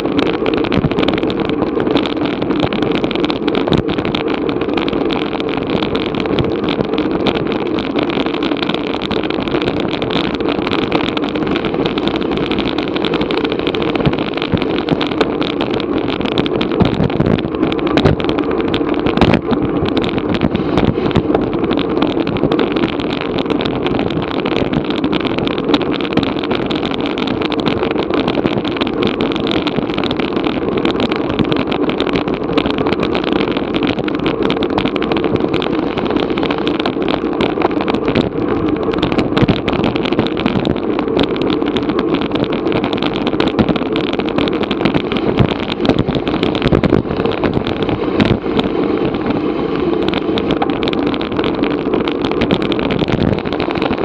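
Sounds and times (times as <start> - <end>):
wind buffeting camera microphone: 0.0 - 54.0.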